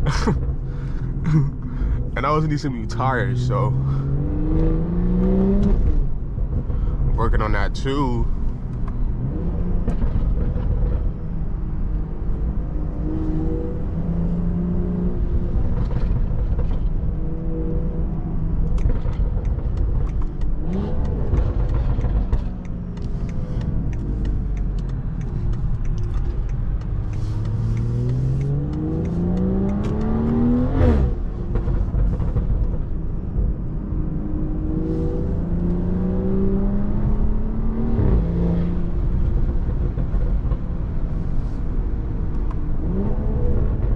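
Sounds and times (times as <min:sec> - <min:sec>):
car engine accelerating through gears: 0:00.0 - 0:43.9.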